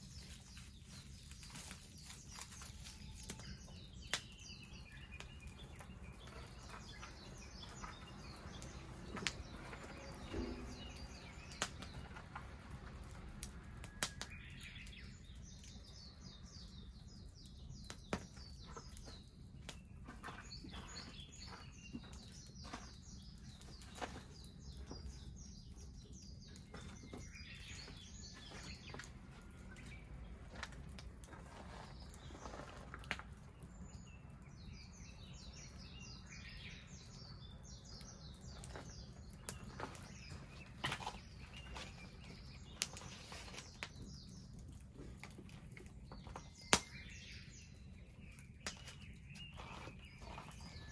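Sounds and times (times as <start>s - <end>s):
small birds trilling: 0.0s - 50.9s
wood fire crackling: 0.0s - 50.9s.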